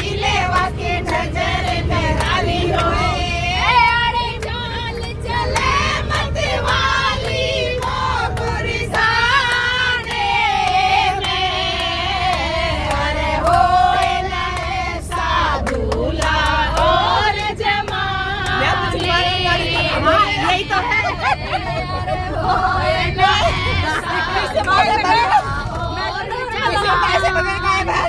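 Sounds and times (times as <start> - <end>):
moving bus rumble: 0.0 - 28.0
women singing together: 0.0 - 28.0.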